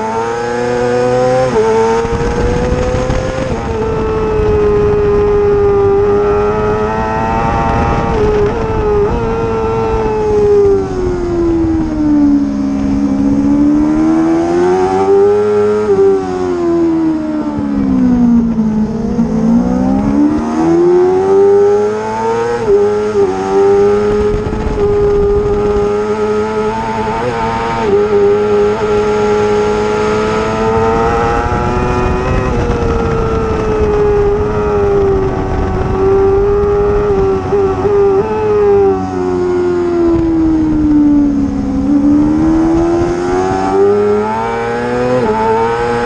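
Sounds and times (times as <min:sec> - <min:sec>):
racing motorcycle engine revving: 0:00.0 - 0:46.0
wind rush: 0:00.7 - 0:46.0.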